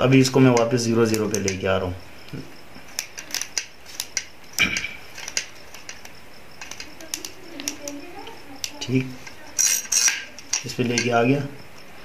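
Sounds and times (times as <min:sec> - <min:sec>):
combination lock wheels clicking: 0:00.2 - 0:01.7, 0:02.9 - 0:11.9.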